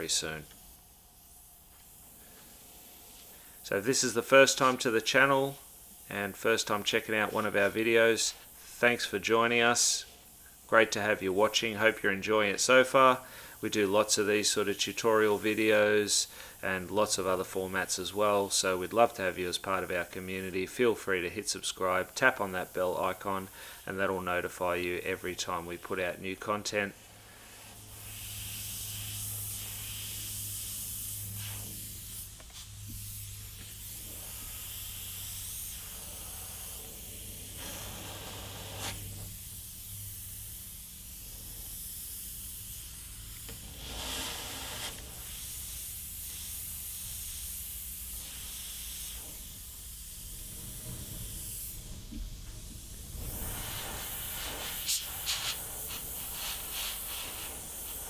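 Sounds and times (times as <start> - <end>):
airbrush spraying paint hiss: 0.0 - 58.0.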